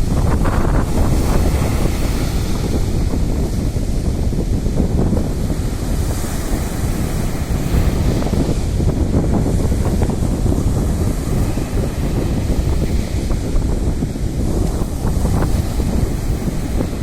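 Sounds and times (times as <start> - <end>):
sea surf rushing: 0.0 - 17.0
wind buffeting microphone: 0.0 - 17.0.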